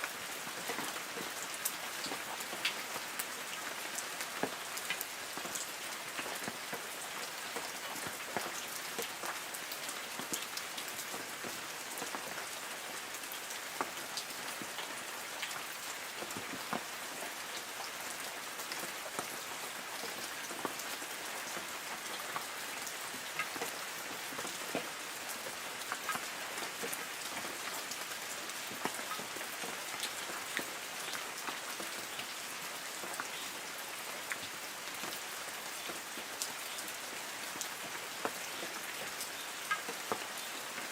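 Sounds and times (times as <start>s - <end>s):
rain pattering on leaves: 0.0s - 40.9s.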